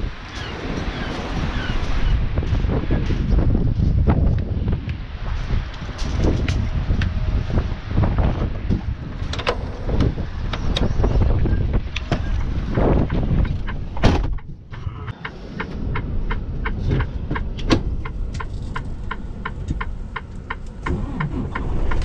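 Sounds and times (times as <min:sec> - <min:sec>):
truck rumbling on road: 0:00.0 - 0:22.0
wind: 0:00.0 - 0:22.0.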